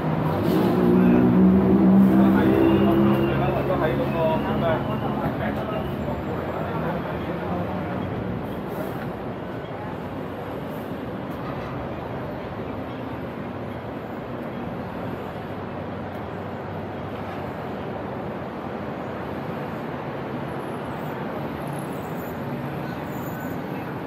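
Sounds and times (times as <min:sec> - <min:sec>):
street traffic din: 0:00.0 - 0:24.0.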